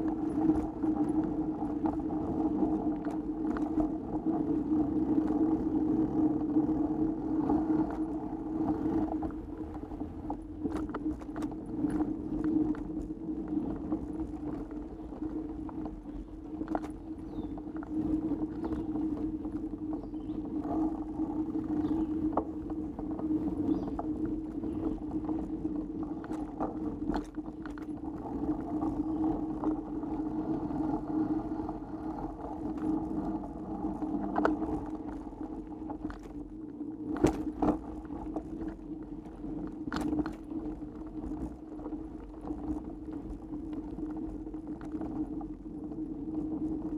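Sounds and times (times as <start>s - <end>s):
bike clicks and rattles: 0.0s - 46.9s
bike tyres rolling on dirt: 0.0s - 46.9s.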